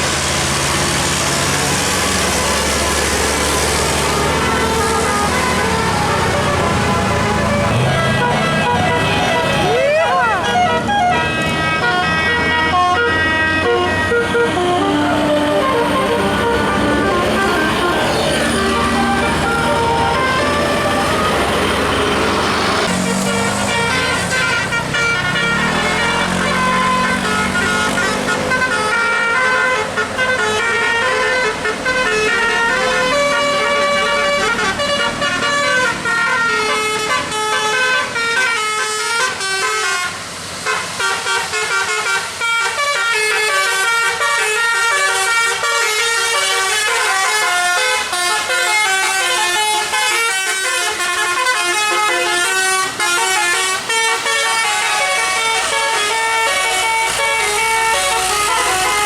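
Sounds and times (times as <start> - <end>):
multi-trumpet air horn melody: 2.1 - 59.0.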